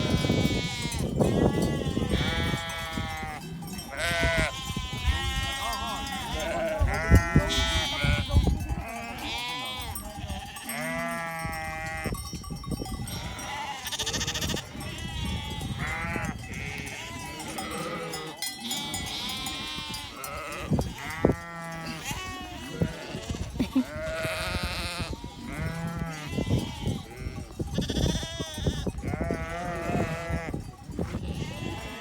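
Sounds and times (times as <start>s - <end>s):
sheep bleating: 0.0s - 12.2s, 13.1s - 32.0s.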